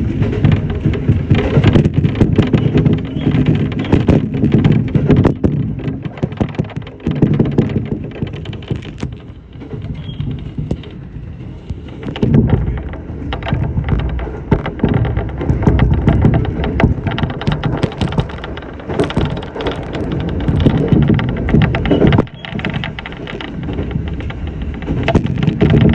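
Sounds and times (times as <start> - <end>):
sharp rattling clicks: 0.0 - 25.9
train running low rumble: 0.0 - 25.9.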